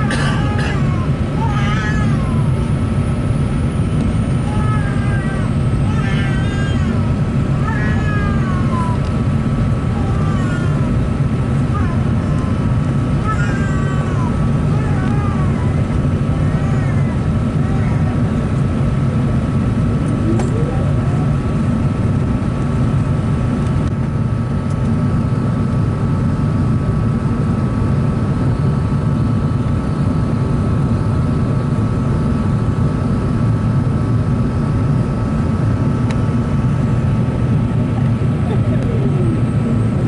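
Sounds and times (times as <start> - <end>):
airliner engines rumbling: 0.0 - 40.0
thin steady whine: 0.0 - 40.0.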